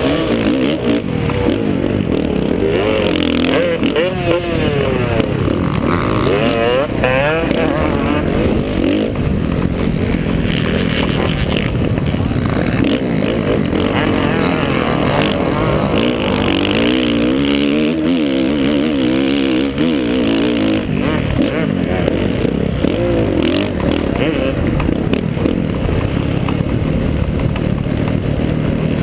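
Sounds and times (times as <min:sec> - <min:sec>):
motocross bike engines racing: 0:00.0 - 0:29.0.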